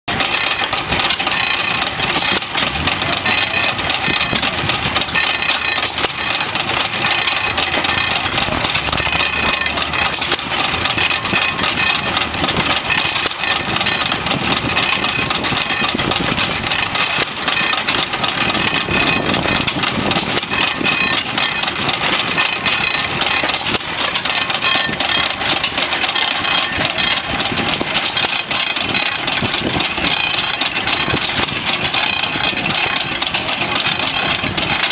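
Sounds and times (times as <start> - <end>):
single-cylinder engine clattering: 0.1 - 34.9.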